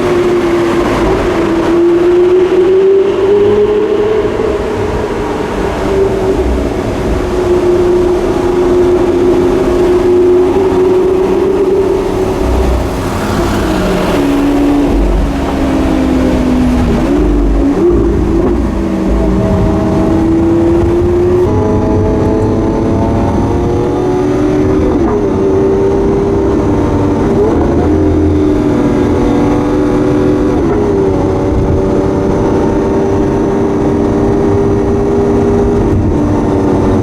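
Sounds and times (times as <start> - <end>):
car engine running onboard: 0.0 - 37.0.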